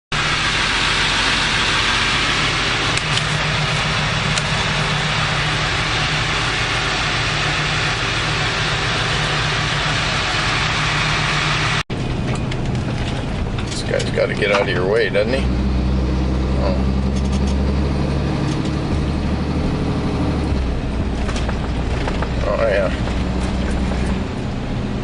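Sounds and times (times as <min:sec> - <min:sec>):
low engine hum: 0:00.1 - 0:25.0.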